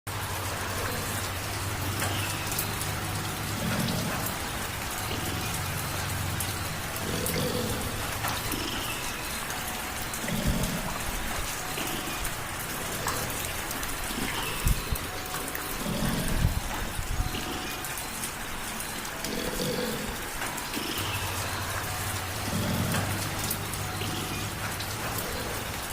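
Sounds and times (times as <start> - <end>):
light rain falling: 0.1 - 25.9.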